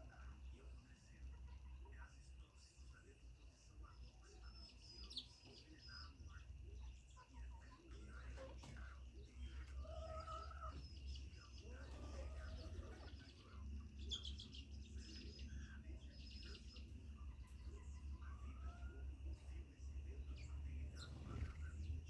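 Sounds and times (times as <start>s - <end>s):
steady low hum: 0.0s - 22.0s
chickens clucking: 3.8s - 21.9s.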